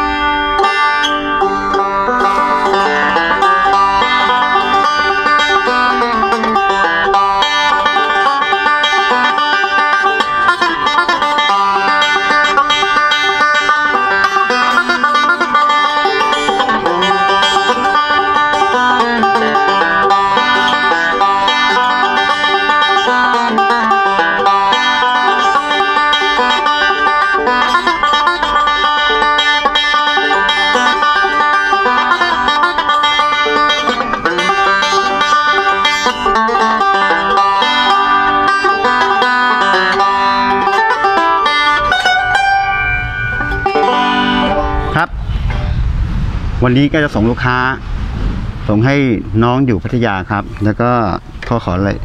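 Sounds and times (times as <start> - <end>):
banjo picked in fast rolls: 0.0 - 45.1.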